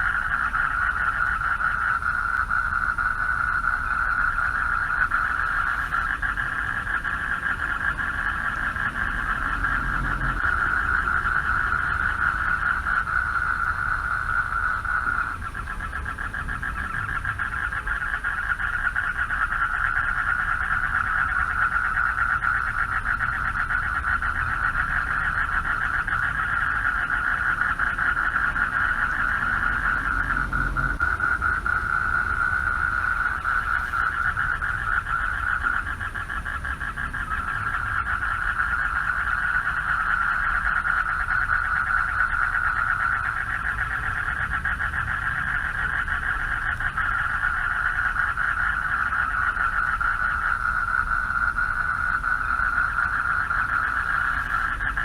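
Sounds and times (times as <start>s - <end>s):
frogs trilling chorus: 0.0s - 55.0s.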